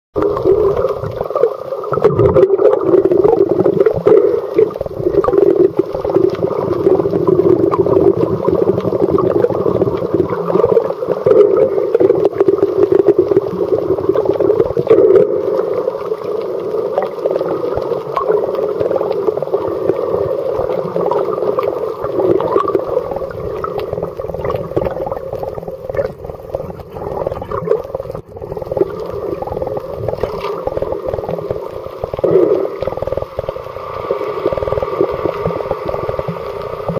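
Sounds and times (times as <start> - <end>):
fine underwater crackling: 0.1 - 36.9
muffled underwater rumble: 0.2 - 36.9.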